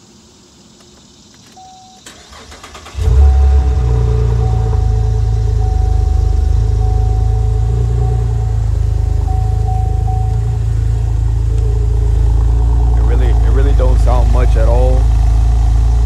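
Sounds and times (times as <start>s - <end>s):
car engine idling: 0.9s - 16.0s.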